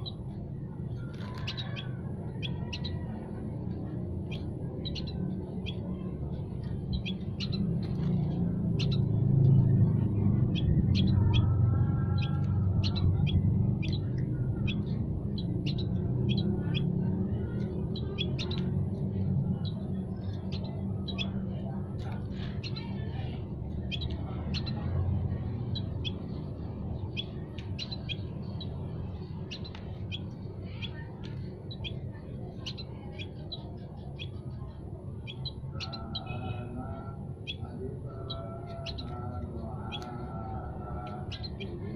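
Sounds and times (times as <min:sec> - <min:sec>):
low rumble: 0:00.0 - 0:41.9
songbirds chirping: 0:00.0 - 0:41.9.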